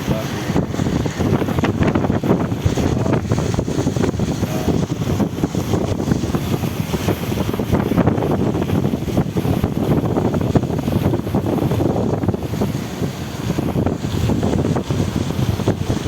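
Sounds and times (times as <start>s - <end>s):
floodwater rushing: 0.0s - 16.0s
wind buffeting microphone: 0.0s - 16.0s.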